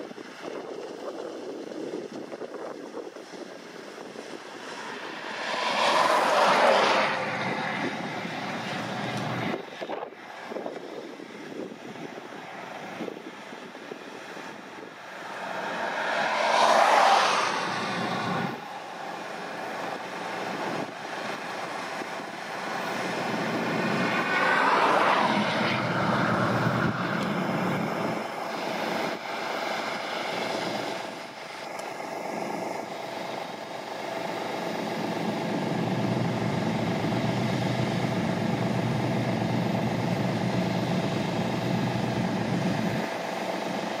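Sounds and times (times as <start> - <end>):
steady machine whine: 0.0 - 44.0
combine harvester droning: 0.2 - 44.0.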